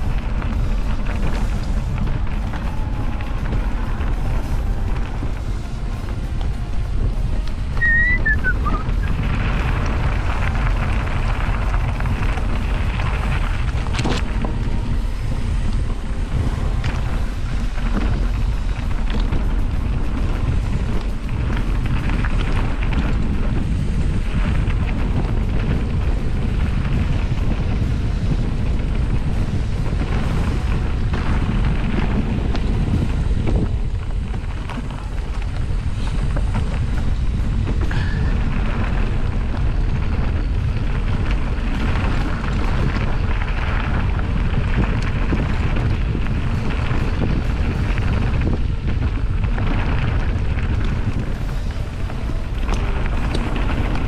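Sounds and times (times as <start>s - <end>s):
wind buffeting microphone: 0.0s - 54.0s
small clicks and rattles: 9.5s - 54.0s.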